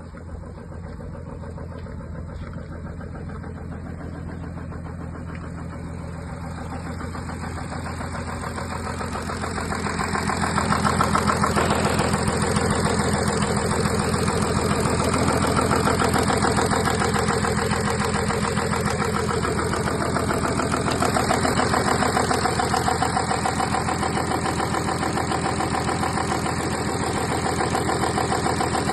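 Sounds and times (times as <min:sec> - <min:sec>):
diesel engine idling clatter: 0:00.0 - 0:28.9.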